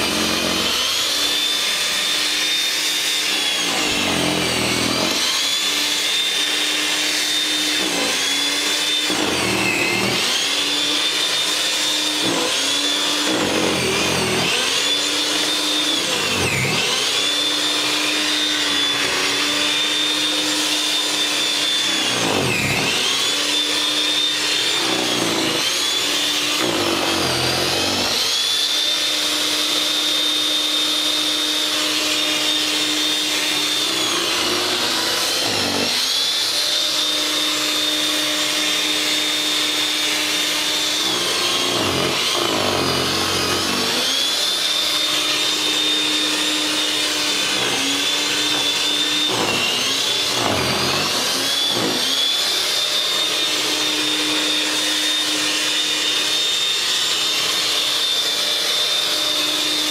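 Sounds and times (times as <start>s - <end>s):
snow thrower motor whining: 0.0s - 59.9s.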